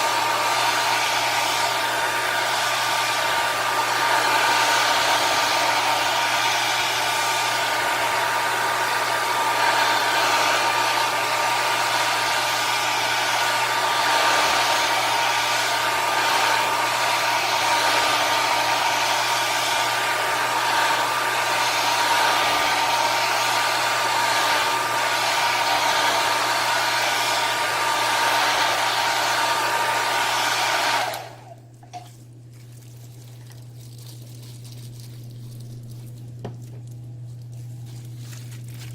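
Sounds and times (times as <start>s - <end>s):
hot-air blower running: 0.0s - 32.1s.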